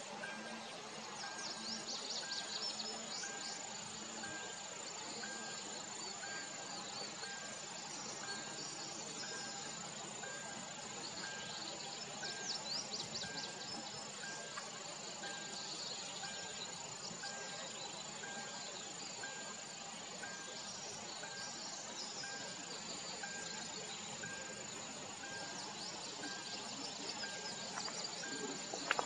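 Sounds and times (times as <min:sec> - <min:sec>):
insects trilling and buzzing: 0:00.0 - 0:29.0.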